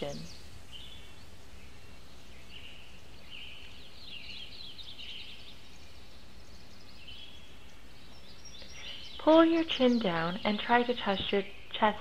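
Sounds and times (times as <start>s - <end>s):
birds chirping and twittering: 0.0s - 12.0s
faint low hum: 0.0s - 12.0s.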